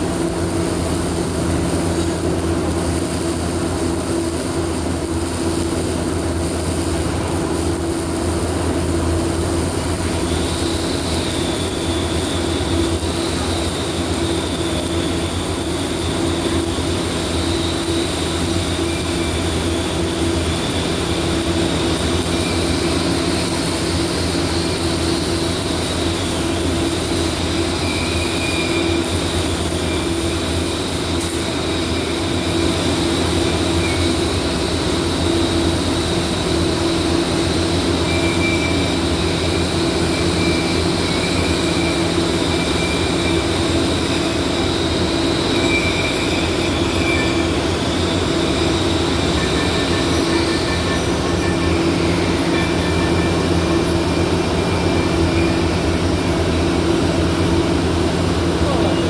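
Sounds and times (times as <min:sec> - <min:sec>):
faint wavering high whine: 0:00.0 - 0:59.0
mechanical drone and hiss: 0:00.0 - 0:59.0.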